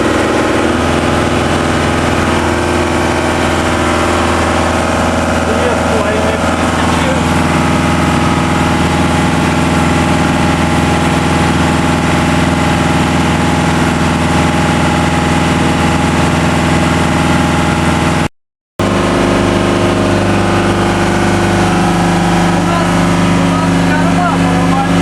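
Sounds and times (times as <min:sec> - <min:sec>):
marine diesel engine running: 0:00.0 - 0:25.0.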